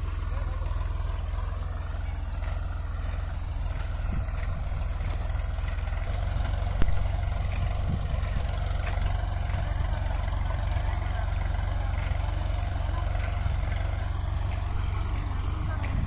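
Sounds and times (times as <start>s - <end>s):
tractor engine rumbling: 0.0s - 16.0s.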